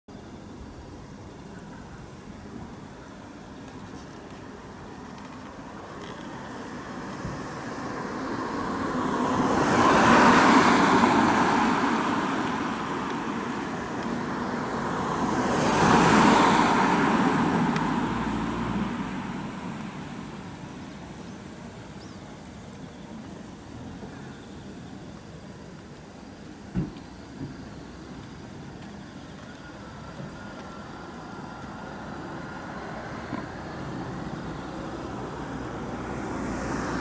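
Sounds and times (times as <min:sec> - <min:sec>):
distant traffic hum: 0:00.1 - 0:37.0
cars passing by: 0:00.4 - 0:37.0.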